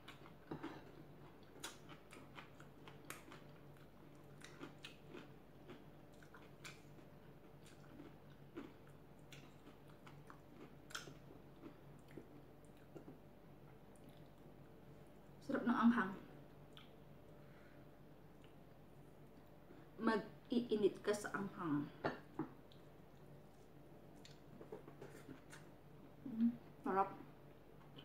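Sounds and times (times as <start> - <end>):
faint chewing with crunches: 0.0 - 15.3, 16.4 - 19.8, 22.2 - 26.8.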